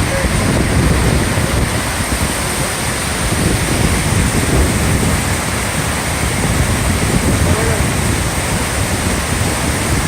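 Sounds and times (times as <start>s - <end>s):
heavy downpour: 0.0s - 10.0s
water rushing over a dam: 0.0s - 10.0s
wind gusts on microphone: 0.0s - 10.0s.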